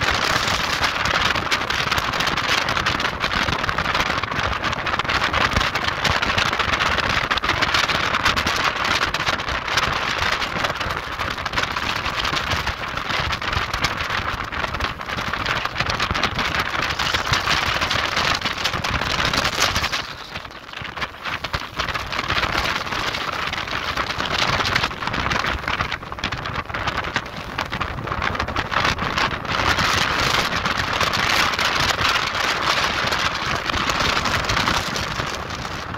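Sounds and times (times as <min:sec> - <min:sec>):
strong wind gusting: 0:00.0 - 0:35.9.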